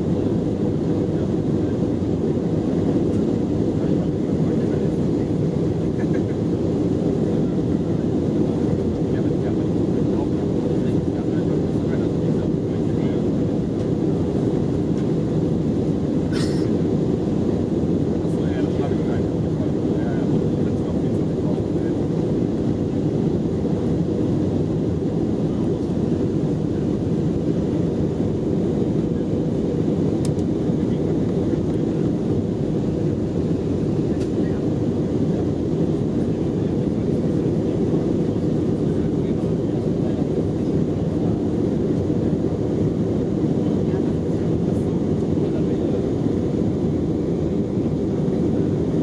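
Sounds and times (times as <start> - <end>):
airliner cabin roar: 0.0 - 49.0.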